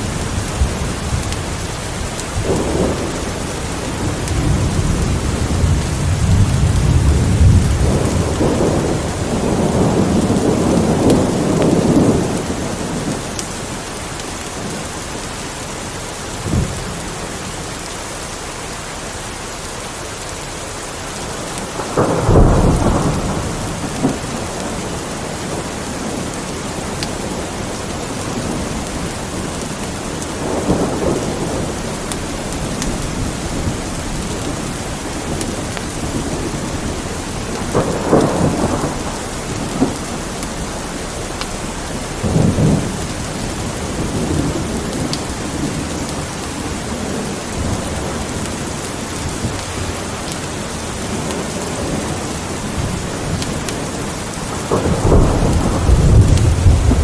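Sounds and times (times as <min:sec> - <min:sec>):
rolling thunder: 0:00.0 - 0:14.9, 0:21.2 - 0:57.0
steady rain falling: 0:00.0 - 0:57.0.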